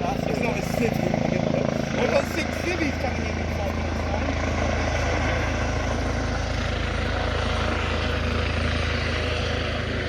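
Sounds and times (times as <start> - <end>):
helicopter rotor blades beating: 0.0 - 10.0
turbine running noise: 0.0 - 10.0.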